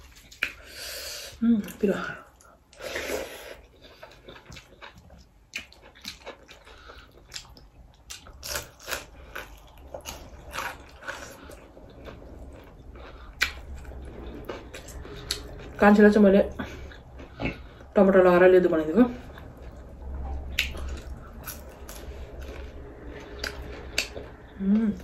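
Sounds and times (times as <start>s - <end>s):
person chewing food: 2.2s - 15.9s, 16.5s - 18.0s, 19.2s - 25.0s.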